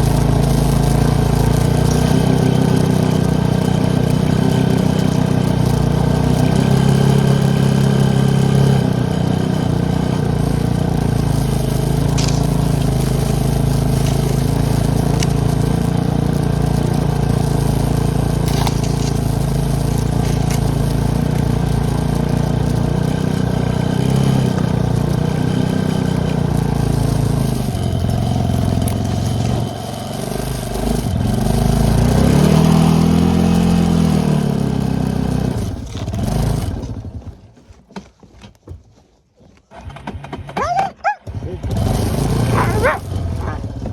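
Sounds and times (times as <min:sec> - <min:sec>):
atv engine running: 0:00.0 - 0:38.8, 0:39.6 - 0:43.9.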